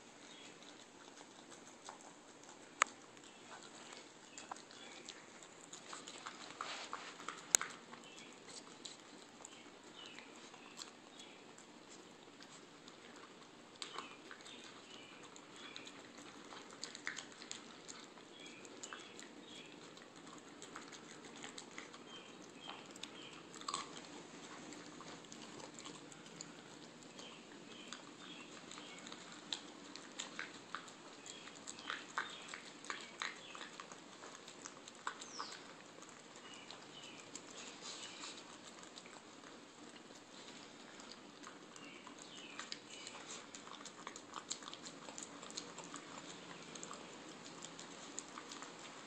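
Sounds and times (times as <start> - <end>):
dog crunching dry kibble: 0.0 - 49.0.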